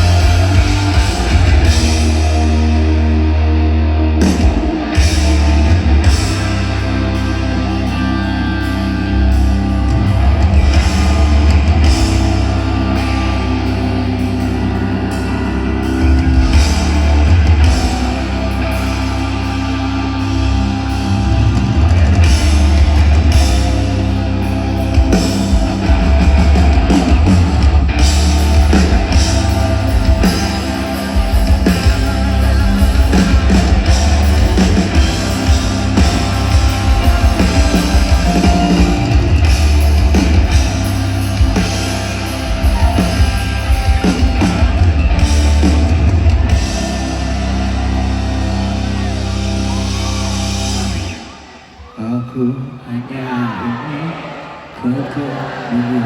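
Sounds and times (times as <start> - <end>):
live rock band playing: 0.0 - 51.8.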